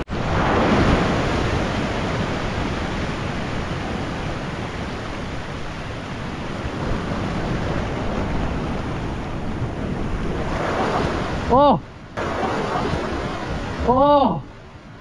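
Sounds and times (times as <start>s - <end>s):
ocean surf washing over rocks: 0.0s - 15.0s.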